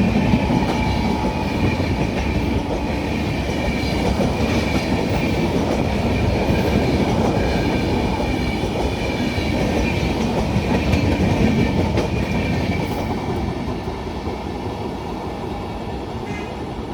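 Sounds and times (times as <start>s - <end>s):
train wheels clattering over rail joints: 0.0s - 14.4s.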